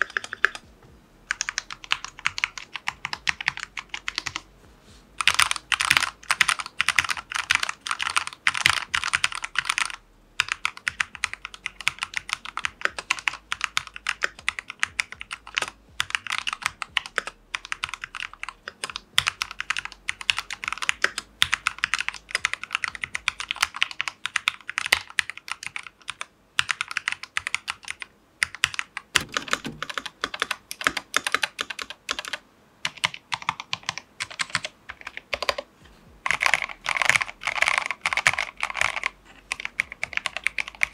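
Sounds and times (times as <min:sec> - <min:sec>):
typing on mechanical keyboard: 0:00.0 - 0:00.6, 0:01.3 - 0:04.4, 0:05.2 - 0:35.7, 0:36.3 - 0:40.9.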